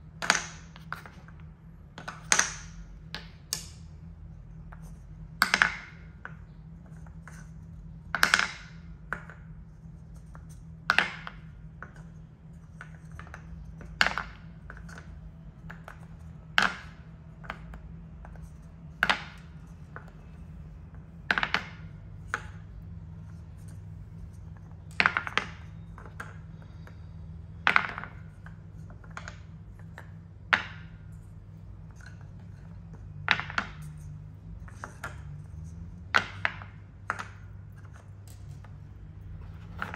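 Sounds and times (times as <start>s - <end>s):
wooden balls knocking in wooden bowl: 0.0s - 3.9s, 4.5s - 39.9s
faint low hum: 0.0s - 39.9s.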